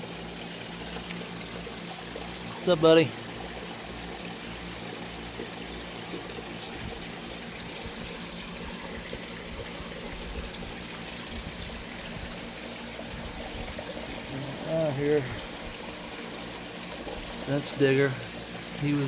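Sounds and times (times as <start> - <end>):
water trickling into a pond: 0.0 - 19.0.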